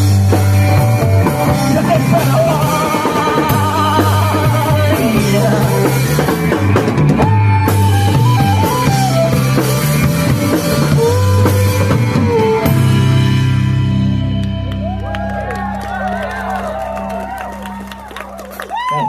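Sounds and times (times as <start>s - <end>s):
gliding lead melody: 0.0s - 18.8s
rock band playing: 0.0s - 19.0s.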